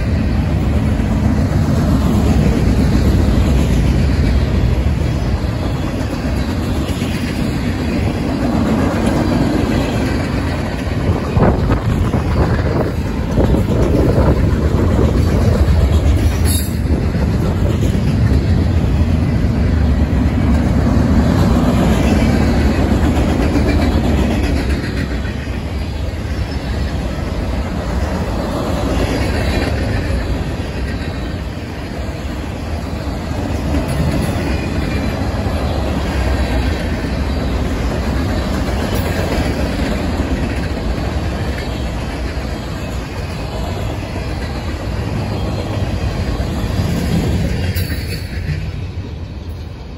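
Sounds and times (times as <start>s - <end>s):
train wheels rolling on rails: 0.0s - 49.9s.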